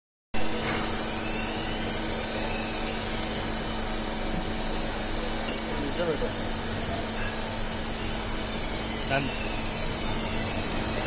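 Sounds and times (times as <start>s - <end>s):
drilling machine humming: 0.4s - 11.0s.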